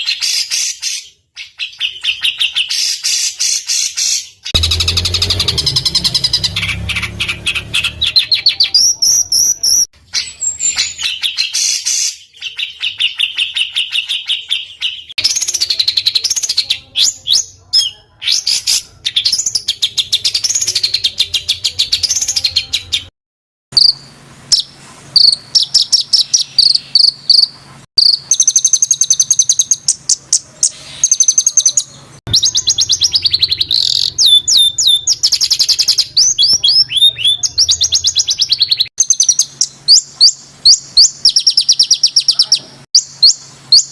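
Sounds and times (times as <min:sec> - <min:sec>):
songbirds singing fast trills: 0:00.0 - 0:23.1, 0:23.8 - 0:43.9.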